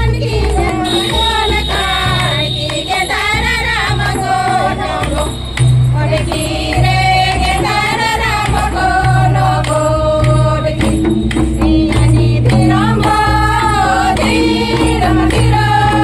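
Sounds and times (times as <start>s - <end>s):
large drum beating low rhythm: 0.0s - 16.0s
women singing folk song in unison: 0.0s - 16.0s.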